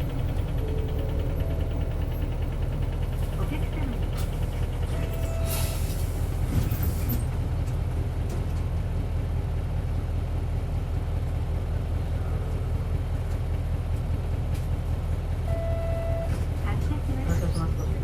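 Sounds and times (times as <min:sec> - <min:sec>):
diesel bus engine rumbling: 0:00.0 - 0:18.0.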